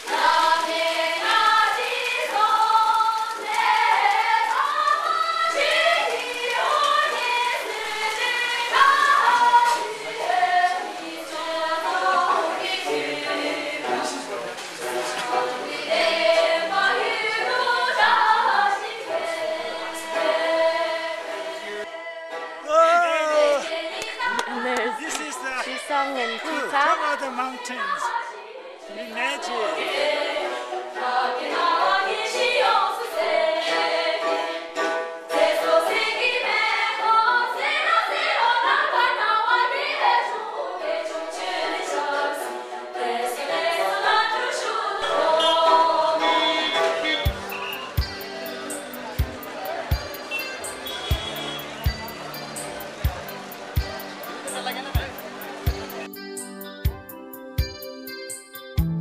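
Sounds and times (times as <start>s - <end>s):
group singing unaccompanied: 0.0s - 56.1s.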